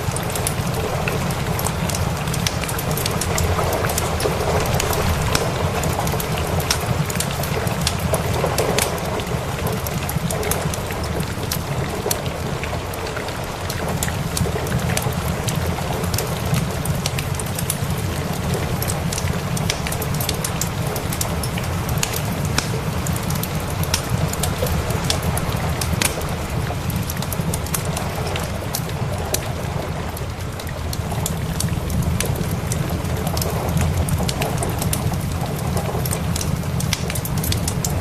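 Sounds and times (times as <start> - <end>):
continuous low rumble: 0.0 - 38.0
fireplace fire crackling: 0.0 - 38.0
steady rain: 0.0 - 38.0.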